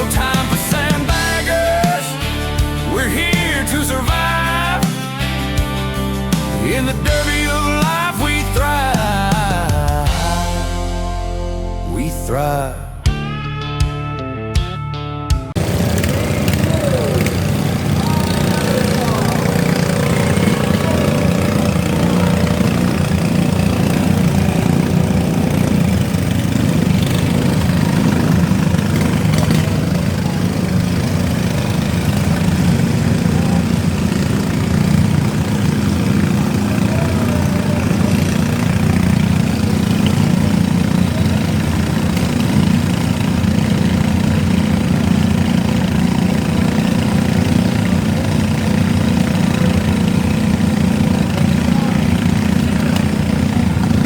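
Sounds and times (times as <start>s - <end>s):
lawn mower engines running: 0.0s - 13.0s, 15.5s - 54.0s.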